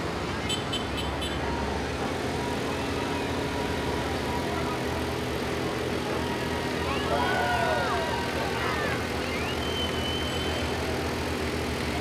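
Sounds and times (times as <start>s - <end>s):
tractor engine running: 1.5s - 12.0s.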